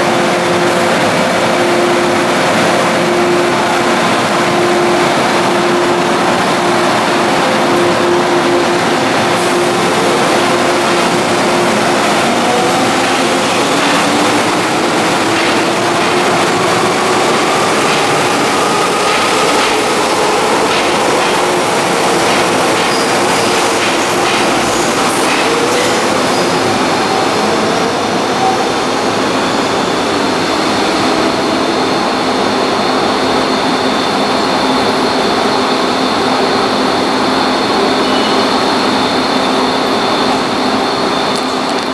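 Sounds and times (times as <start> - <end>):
train wheel and rail noise: 0.0 - 41.9.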